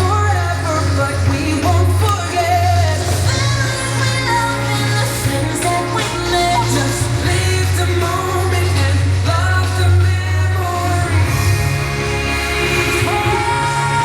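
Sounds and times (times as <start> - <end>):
singing over strong bass: 0.0 - 14.0.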